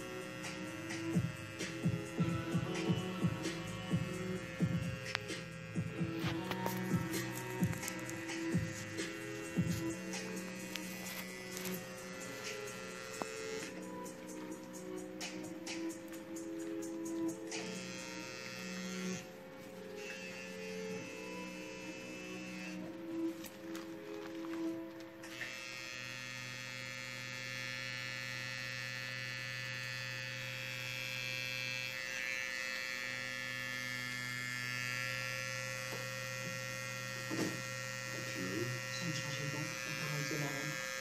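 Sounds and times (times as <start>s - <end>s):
tattoo machine buzzing: 0.0s - 41.0s.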